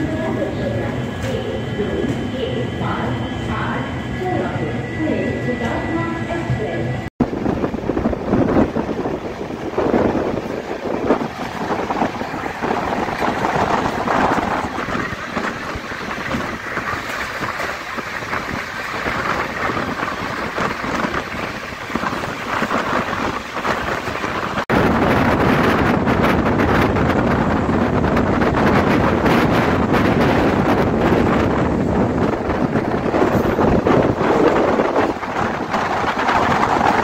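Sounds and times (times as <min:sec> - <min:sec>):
train coaches running at speed: 0:00.0 - 0:37.0
wind buffeting microphone: 0:00.0 - 0:37.0.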